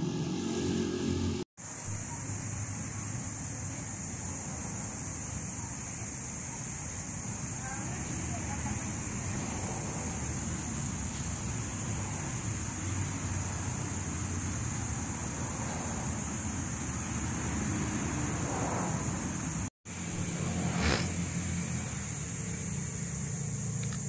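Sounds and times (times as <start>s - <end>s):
constant high hiss: 1.6s - 24.0s.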